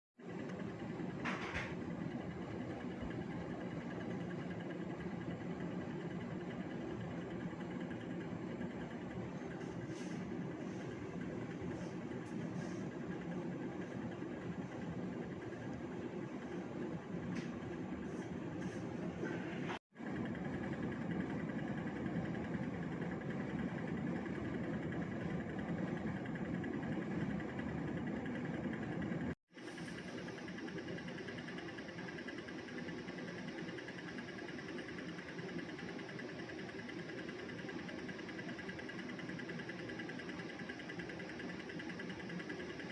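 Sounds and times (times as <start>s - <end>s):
air conditioner droning hum: 0.2s - 42.9s.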